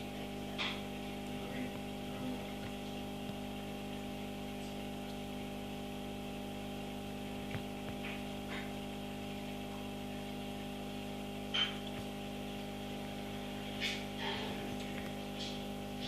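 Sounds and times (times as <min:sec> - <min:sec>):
aquarium equipment humming: 0:00.0 - 0:16.0.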